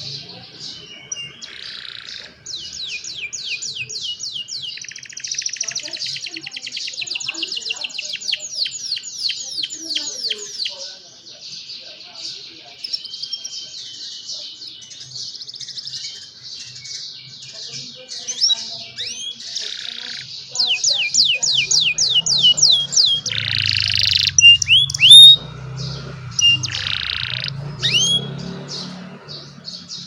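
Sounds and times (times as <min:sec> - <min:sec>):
young canaries singing: 0:00.0 - 0:30.0.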